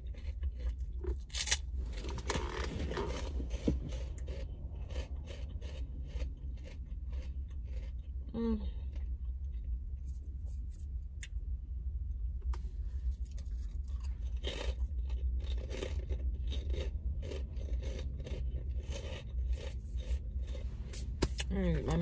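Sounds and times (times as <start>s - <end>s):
chewing crunchy salad: 0.0s - 11.5s, 12.5s - 22.0s
steady low hum: 0.0s - 22.0s.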